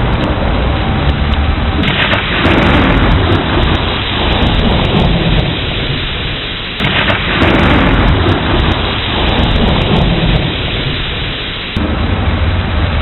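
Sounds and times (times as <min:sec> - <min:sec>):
heavy rain: 0:00.0 - 0:13.0
rolling thunder: 0:00.0 - 0:13.0
sudden thunderclaps: 0:01.7 - 0:13.0.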